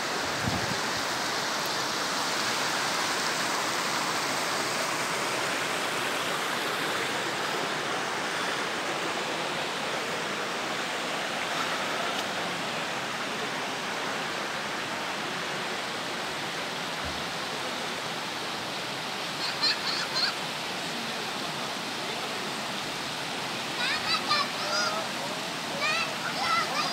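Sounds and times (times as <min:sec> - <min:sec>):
stream over stones: 0:00.0 - 0:26.9.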